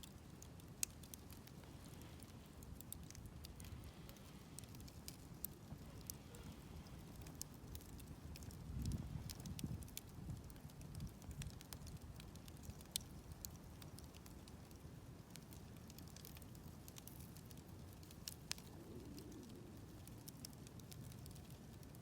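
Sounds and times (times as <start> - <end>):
campfire flames fluttering: 0.0 - 22.0
fire crackling: 0.0 - 22.0.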